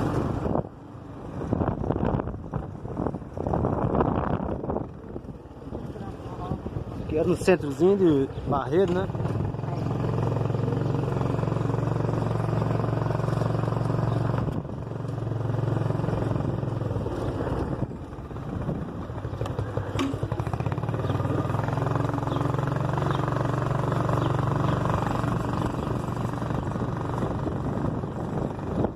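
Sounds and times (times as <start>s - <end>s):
road noise: 0.0s - 28.9s
vehicle engine running: 0.0s - 28.9s.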